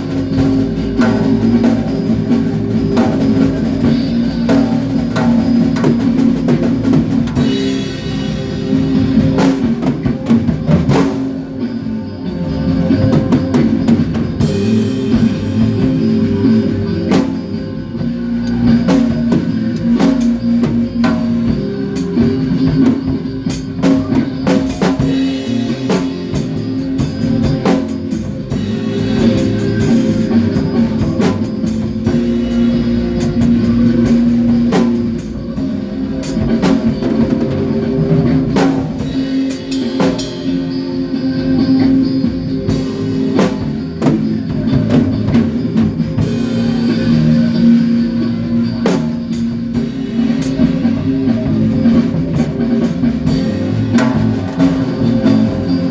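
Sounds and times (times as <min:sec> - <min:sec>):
drum kit beat: 0:00.0 - 0:55.9
rock band playing: 0:00.0 - 0:55.9
sustained guitar notes: 0:00.0 - 0:55.9.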